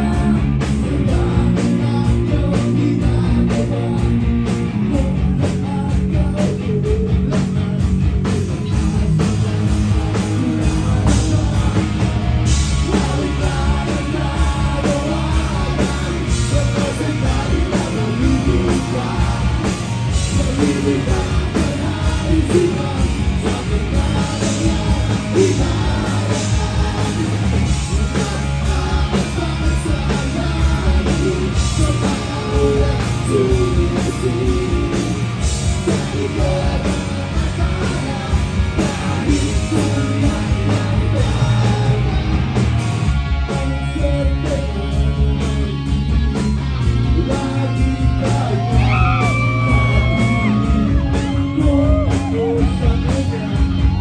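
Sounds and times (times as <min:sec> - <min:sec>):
man singing: 0:00.0 - 0:42.6, 0:43.2 - 0:46.0, 0:46.8 - 0:54.0
live rock band playing: 0:00.0 - 0:54.0.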